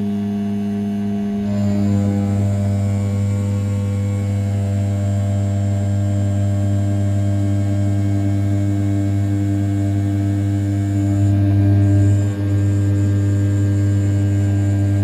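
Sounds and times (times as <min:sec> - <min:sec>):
cnc spindle milling aluminium: 0:01.3 - 0:15.0.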